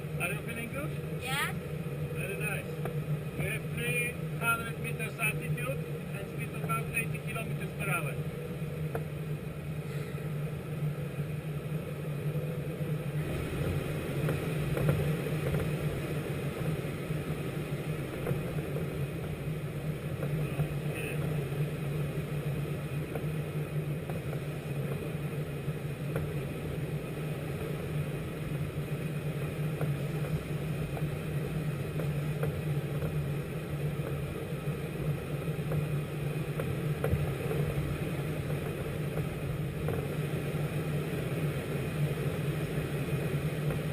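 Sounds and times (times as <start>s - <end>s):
helicopter engine and rotor drone: 0.0s - 40.1s.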